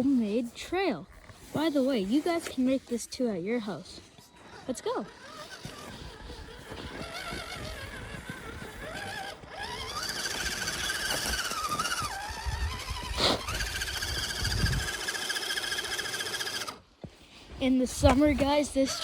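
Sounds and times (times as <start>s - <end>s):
electric motor and gears whining: 0.0s - 16.9s.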